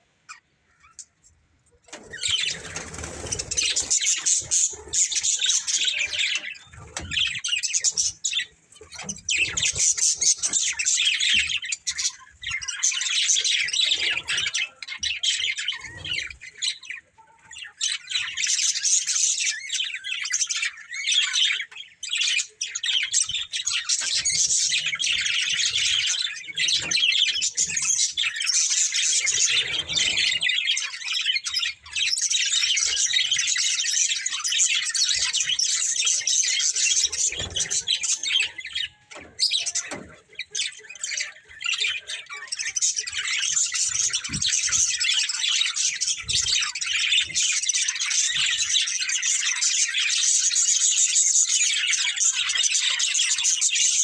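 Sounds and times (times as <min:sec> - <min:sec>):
budgerigars chattering: 0:01.9 - 0:54.0.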